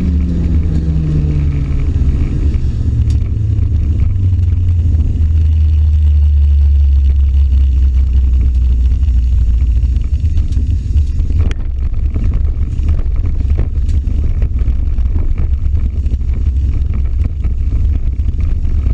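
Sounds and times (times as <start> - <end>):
car engine loud low drone: 0.0 - 18.9.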